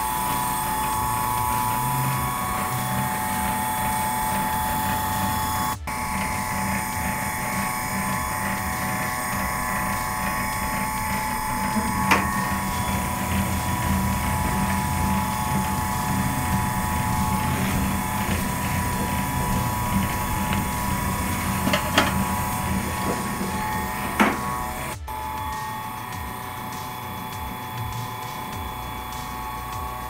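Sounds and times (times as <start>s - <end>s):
noodle machine motor hum and whine: 0.0s - 30.0s.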